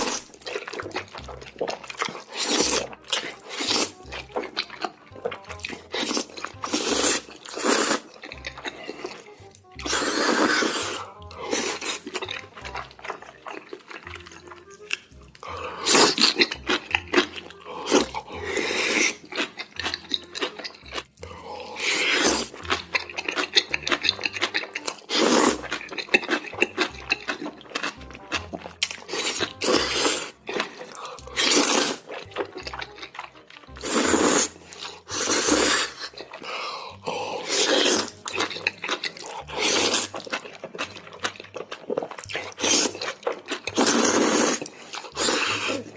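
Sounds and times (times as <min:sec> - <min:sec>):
background music: 0:00.0 - 0:45.9
wet slurping and chewing: 0:00.0 - 0:45.9.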